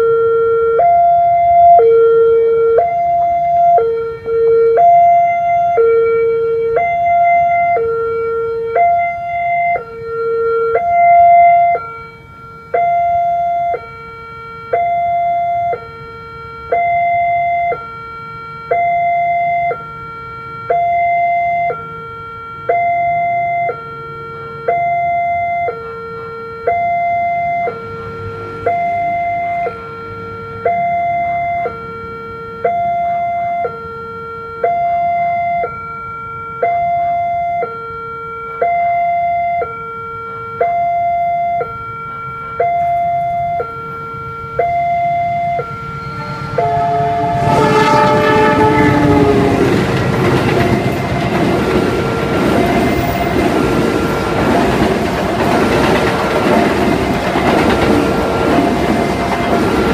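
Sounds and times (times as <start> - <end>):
two-tone level crossing alarm: 0.0 - 59.9.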